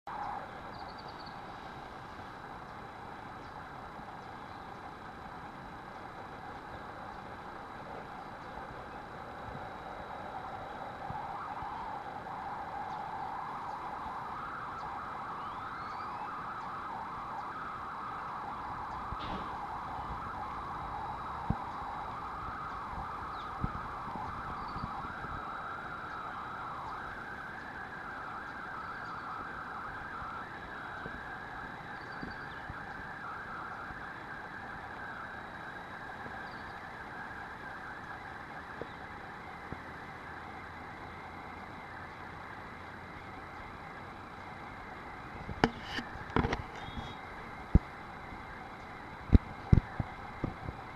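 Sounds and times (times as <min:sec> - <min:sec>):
buzzing insects chorus: 0:00.1 - 0:50.9.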